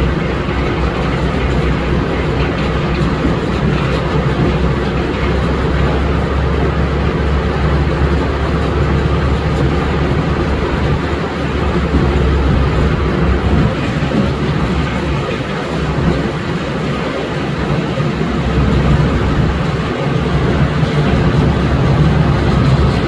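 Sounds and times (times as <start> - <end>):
sawmill machinery rumbling: 0.0 - 23.0.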